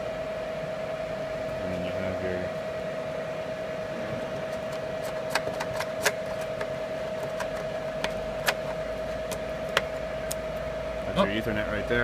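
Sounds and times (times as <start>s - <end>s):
fan-like hiss: 0.0s - 12.0s
steady mid-pitched hum: 0.0s - 12.0s.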